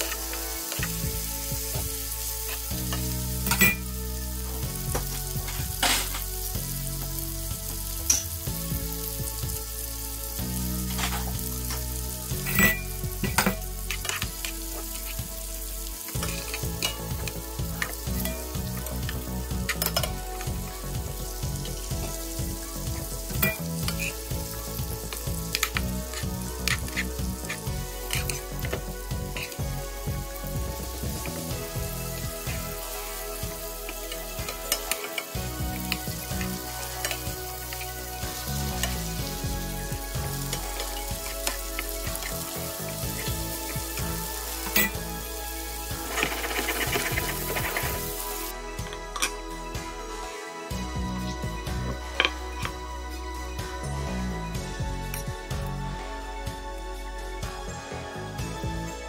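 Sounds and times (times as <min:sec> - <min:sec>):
meat sizzling in frying pan: 0:00.0 - 0:48.5.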